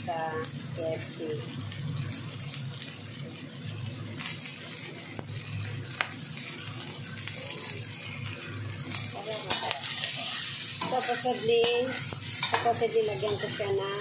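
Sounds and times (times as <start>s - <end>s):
shrimp sizzling in oil: 0.0s - 14.0s.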